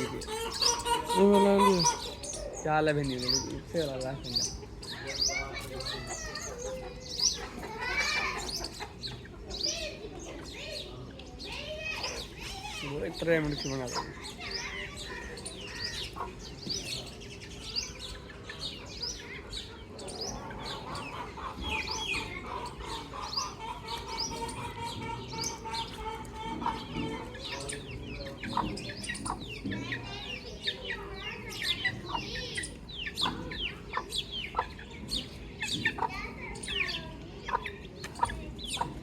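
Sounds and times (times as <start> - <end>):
chickens clucking: 0.0 - 39.0
chicks peeping: 0.0 - 39.0.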